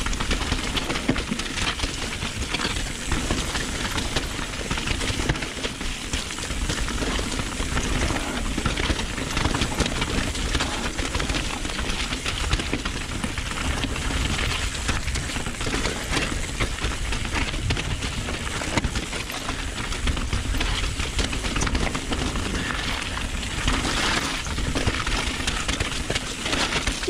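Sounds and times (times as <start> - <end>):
bike clicks and rattles: 0.0 - 27.0
tyres crunching over stones: 0.0 - 27.0.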